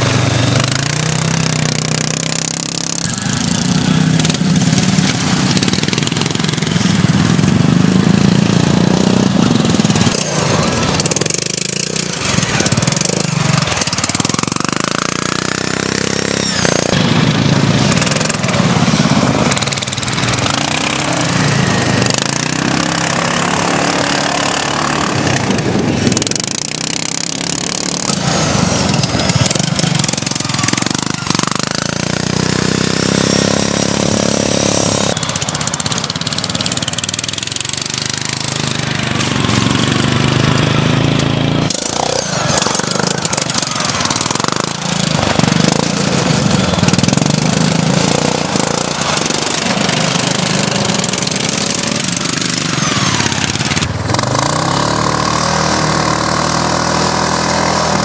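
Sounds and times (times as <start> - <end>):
ride-on lawn mower engines racing: 0.0 - 58.0.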